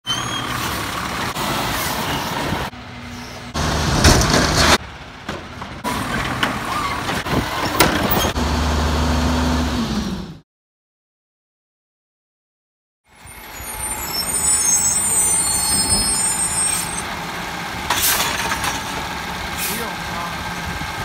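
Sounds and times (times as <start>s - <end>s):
diesel engine running and revving: 0.0s - 10.4s, 13.2s - 21.0s.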